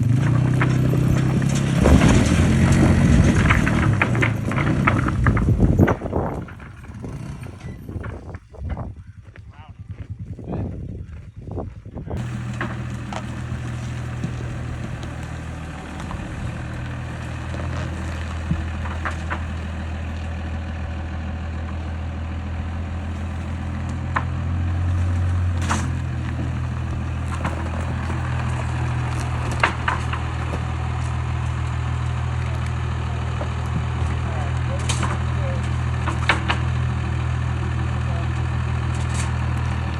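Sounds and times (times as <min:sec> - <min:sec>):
vehicle engine idling: 0:00.0 - 0:08.4, 0:12.2 - 0:39.9
knocks and clanks: 0:00.0 - 0:08.9, 0:12.2 - 0:39.9.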